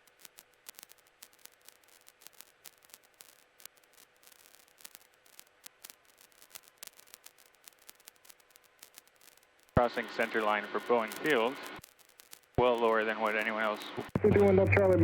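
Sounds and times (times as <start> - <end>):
crackling radio static: 0.0 - 15.0
faint steady hum: 0.0 - 15.0.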